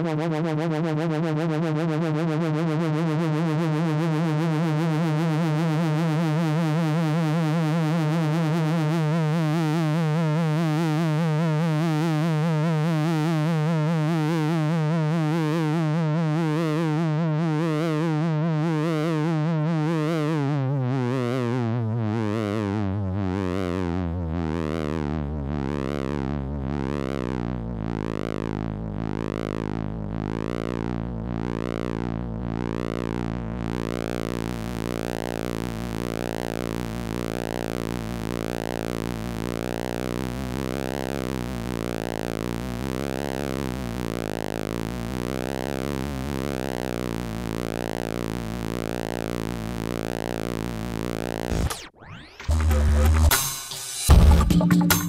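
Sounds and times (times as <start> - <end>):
synthesizer drone: 0.0 - 55.0.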